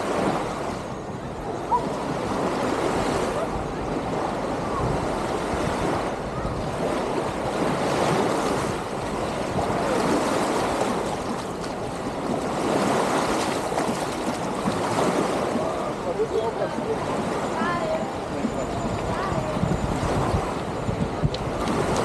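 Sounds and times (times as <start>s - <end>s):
small waves lapping on shore: 0.0s - 22.0s.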